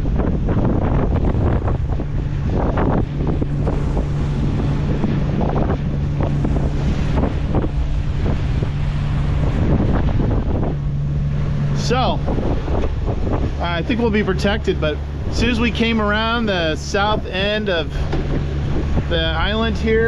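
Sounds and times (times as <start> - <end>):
steady low hum: 0.0 - 20.0
water rushing along hull: 0.0 - 20.0
wind buffeting microphone: 0.0 - 20.0.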